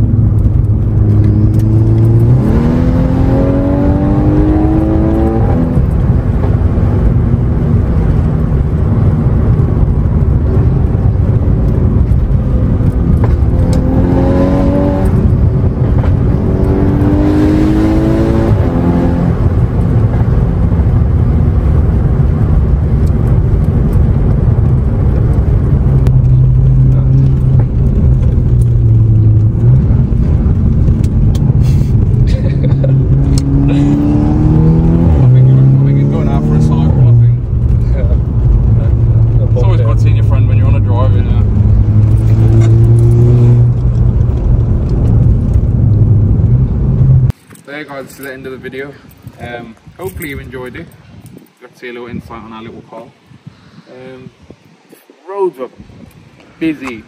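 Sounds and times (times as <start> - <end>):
car engine accelerating: 0.0 - 47.4
tyre and road noise: 0.0 - 57.0.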